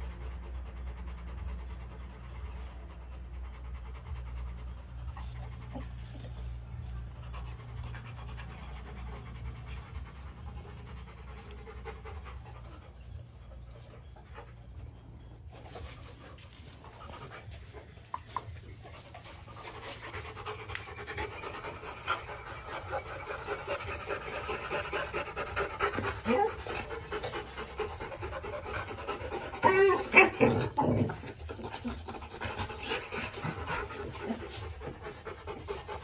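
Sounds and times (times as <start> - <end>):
puppies panting: 0.0 - 36.0.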